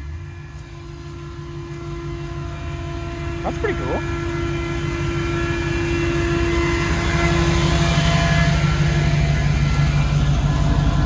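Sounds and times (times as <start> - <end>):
truck engine crawling: 0.0 - 11.0.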